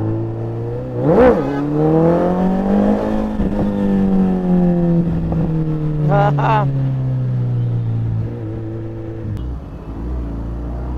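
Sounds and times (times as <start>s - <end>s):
vehicle engine revving and accelerating: 0.0s - 10.9s.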